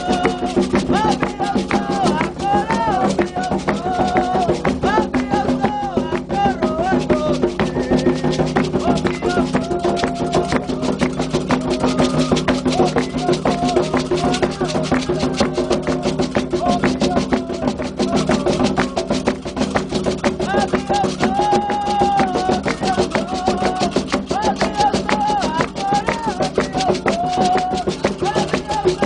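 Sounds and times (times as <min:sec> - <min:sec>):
hand drums beating fast rhythm: 0:00.0 - 0:29.0
struck percussion: 0:00.0 - 0:29.0
voices singing a chant: 0:00.0 - 0:29.0.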